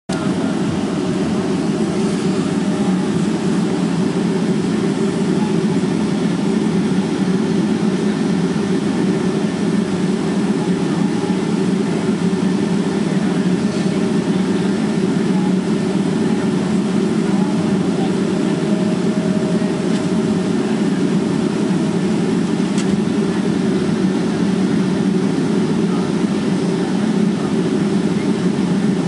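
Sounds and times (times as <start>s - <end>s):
airliner cabin hum: 0.1s - 29.0s.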